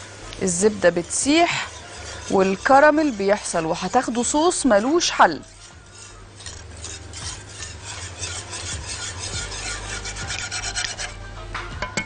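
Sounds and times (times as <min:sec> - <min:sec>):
wire whisk scraping a pan: 0:00.0 - 0:11.2.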